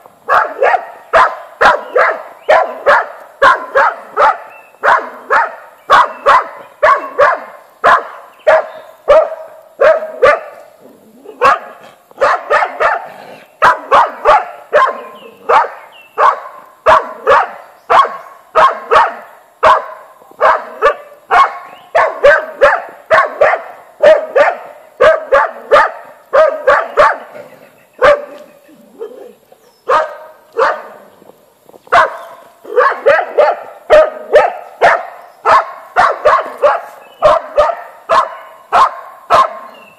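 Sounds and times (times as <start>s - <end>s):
dog barking: 0.3s - 10.6s, 11.3s - 27.4s, 28.0s - 29.3s, 29.9s - 31.0s, 31.9s - 39.9s.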